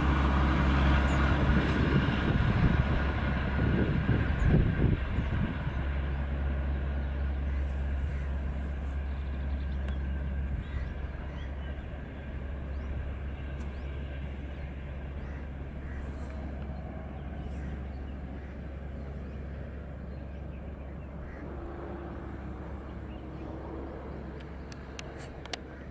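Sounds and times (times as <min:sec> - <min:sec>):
train rumble: 0:00.0 - 0:25.9.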